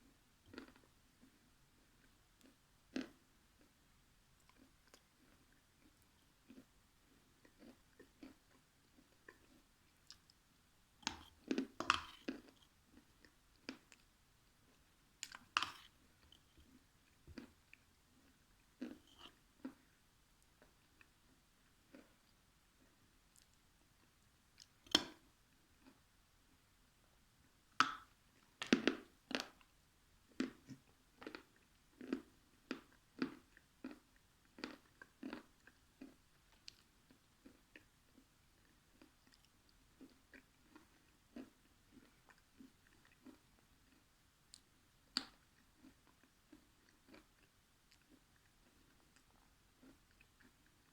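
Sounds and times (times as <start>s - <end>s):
person chewing food: 0.0s - 3.8s, 4.4s - 10.4s, 11.0s - 26.0s, 30.3s - 50.9s.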